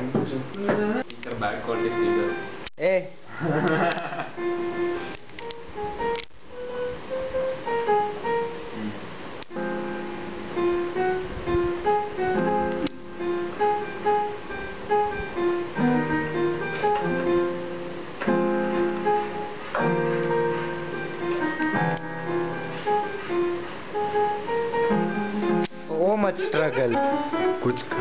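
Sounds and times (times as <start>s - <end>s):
electronic keyboard melody: 0.9s - 2.7s, 4.3s - 28.0s.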